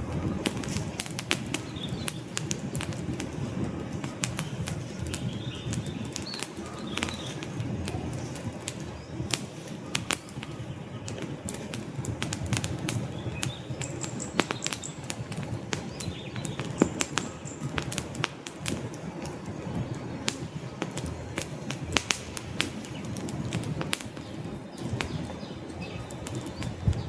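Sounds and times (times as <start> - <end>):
flames rumbling: 0.0 - 27.0
logs popping and snapping: 0.0 - 27.0
wood fire crackling: 0.0 - 27.0.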